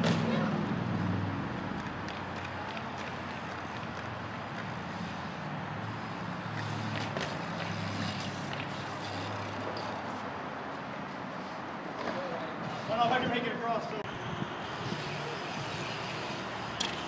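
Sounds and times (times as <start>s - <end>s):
bikes clicking on concrete: 0.0s - 17.0s
highway traffic rumble: 0.0s - 17.0s.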